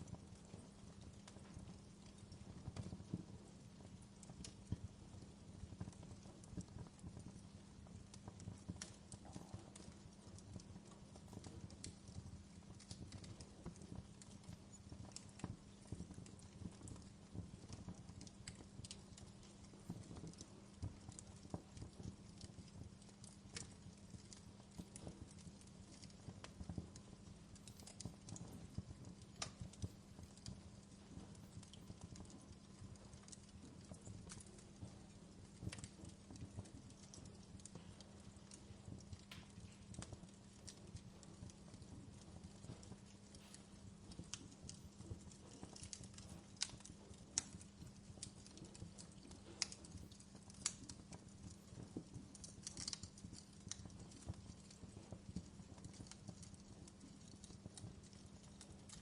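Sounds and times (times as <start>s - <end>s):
faint wood fire crackling: 0.0s - 59.0s.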